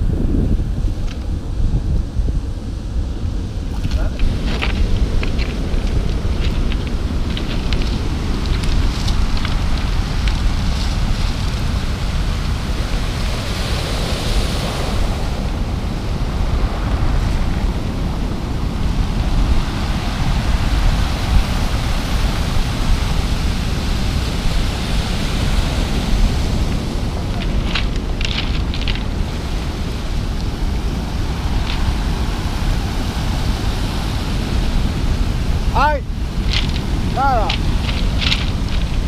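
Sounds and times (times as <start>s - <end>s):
surf washing over cobble beach: 0.0s - 39.0s
wind rumbling on microphone: 0.0s - 39.0s.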